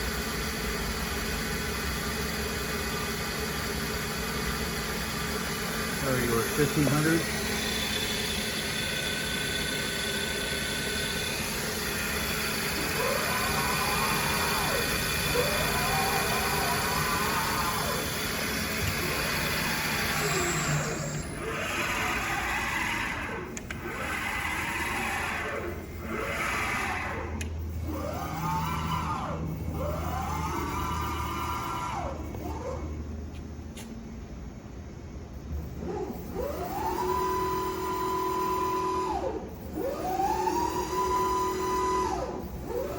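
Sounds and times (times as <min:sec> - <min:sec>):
milling machine spindle hum: 0:00.0 - 0:33.2, 0:35.7 - 0:42.9
axis drive whines: 0:00.0 - 0:34.0, 0:35.4 - 0:42.9.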